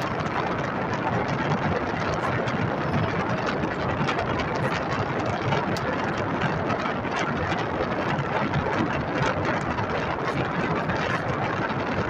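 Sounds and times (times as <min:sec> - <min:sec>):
rushing noise inside truck cab: 0:00.0 - 0:12.0.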